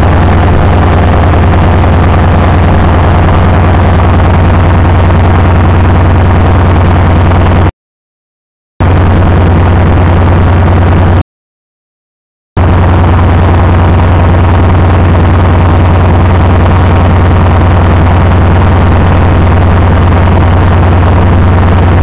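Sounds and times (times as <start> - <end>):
locomotive diesel engine running: 0.0 - 7.7, 8.8 - 11.2, 12.6 - 22.0.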